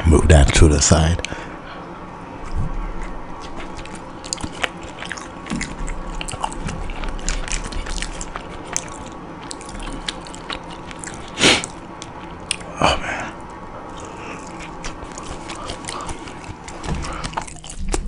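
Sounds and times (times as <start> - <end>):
person chewing food: 2.4 - 18.0.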